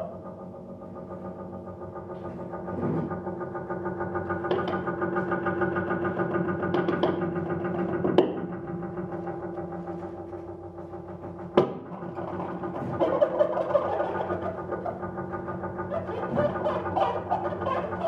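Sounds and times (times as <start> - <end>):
double bass drone: 0.0 - 18.0.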